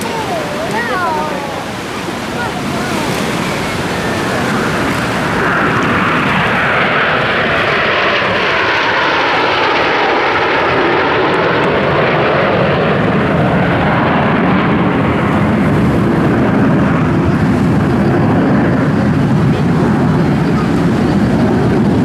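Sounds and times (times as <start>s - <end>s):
jet aircraft roar: 0.0s - 22.0s.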